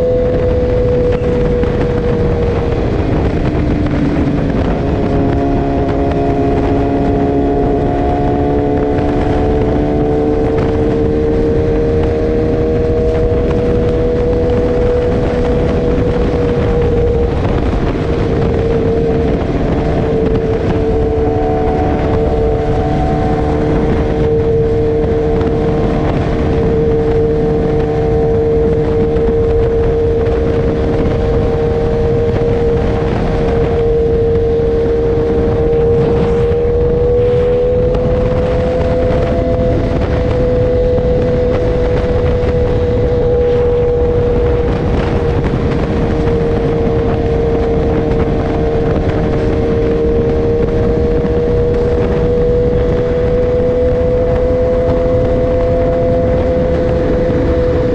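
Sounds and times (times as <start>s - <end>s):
motorcycle engine cruising: 0.0s - 57.9s
wind and road noise: 0.0s - 57.9s.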